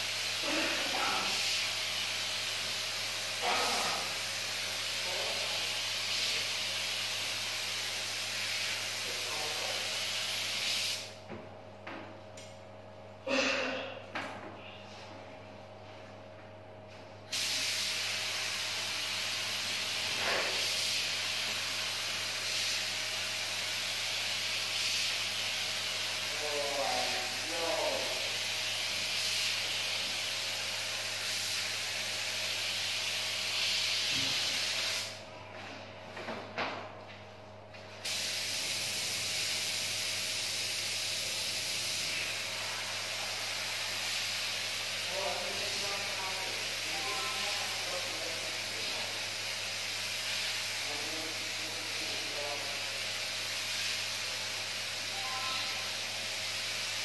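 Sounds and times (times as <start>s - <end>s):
paint spray gun hissing: 0.0s - 11.2s, 17.3s - 35.2s, 38.0s - 57.0s
spray gun air puffs: 0.0s - 11.2s, 17.3s - 35.2s, 38.0s - 57.0s.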